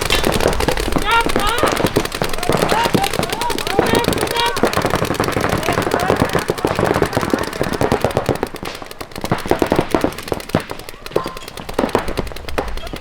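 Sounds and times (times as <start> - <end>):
paintball guns firing: 0.0 - 13.0.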